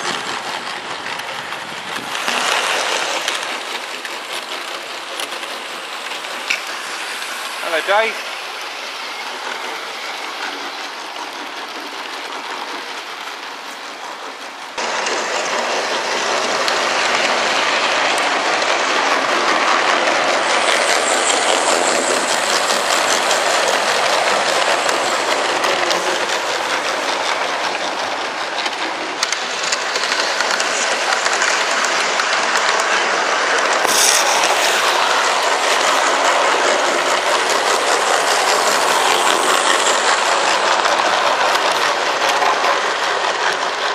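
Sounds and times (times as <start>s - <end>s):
model train wheels clattering: 0.0s - 43.9s.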